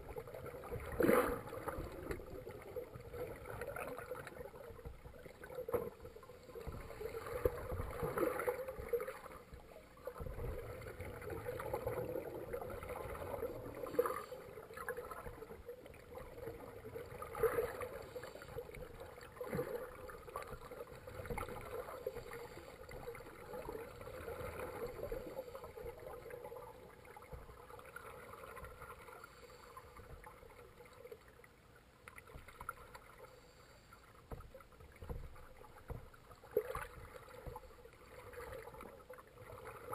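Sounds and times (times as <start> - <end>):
muffled underwater water movement: 0.0 - 39.9.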